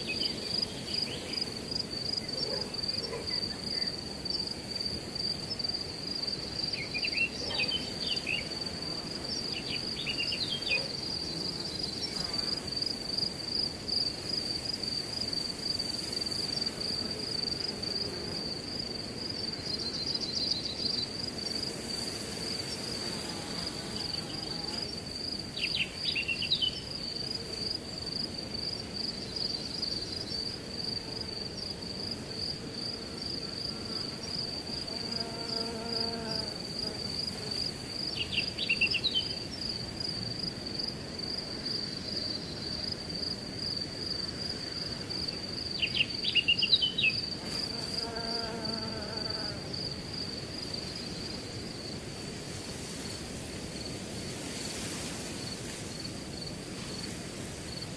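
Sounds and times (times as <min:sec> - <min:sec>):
crickets trilling: 0:00.0 - 0:57.9
wind through grass: 0:00.0 - 0:57.9.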